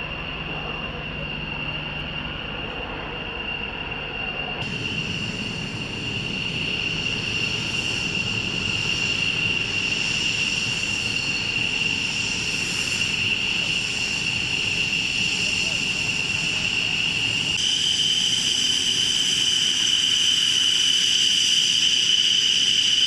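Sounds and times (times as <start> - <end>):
aircraft engines whining and rumbling: 0.0 - 23.0.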